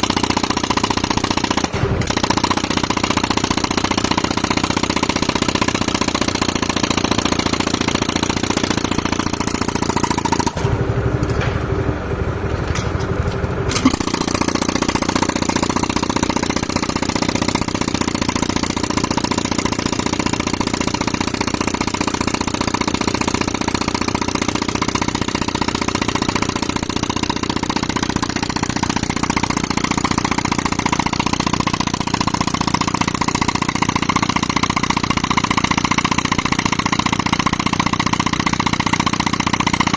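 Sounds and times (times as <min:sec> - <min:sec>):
air compressor engine running: 0:00.0 - 0:39.9
pneumatic rock breaker hammering: 0:00.0 - 0:39.9.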